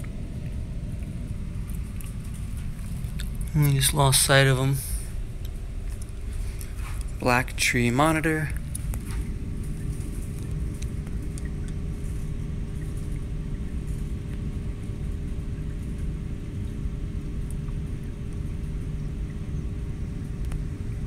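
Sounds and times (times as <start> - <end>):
low rumble with constant hum: 0.0 - 21.0.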